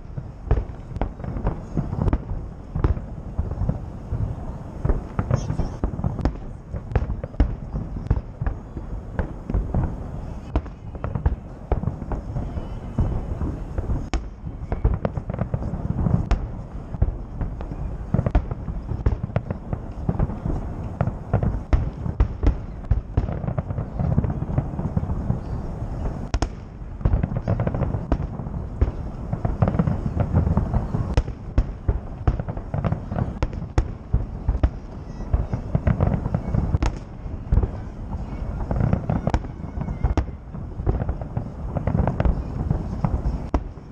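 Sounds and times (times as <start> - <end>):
fireworks booming and cracking: 0.0 - 43.9.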